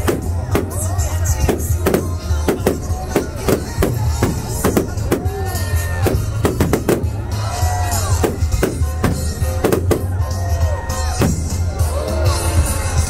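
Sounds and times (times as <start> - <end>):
person singing: 0.0 - 11.0
heavy bass: 0.0 - 13.0
loud music with fast drum beat: 0.0 - 13.0.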